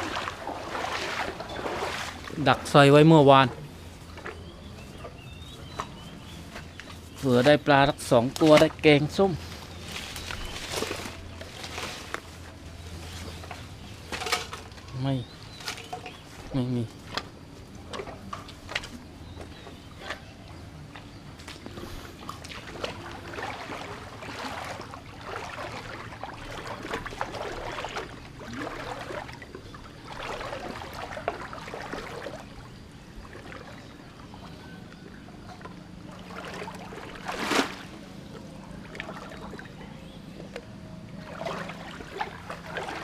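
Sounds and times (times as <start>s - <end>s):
faint steady hum: 0.0s - 43.0s
floodwater sloshing and splashing: 0.0s - 43.0s.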